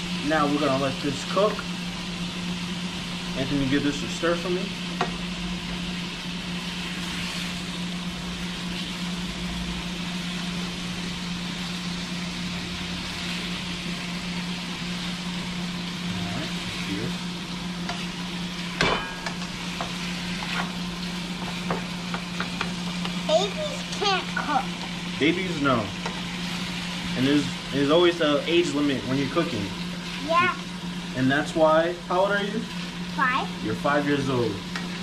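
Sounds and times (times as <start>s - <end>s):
chicken sizzling in a frying pan: 0.0s - 35.0s.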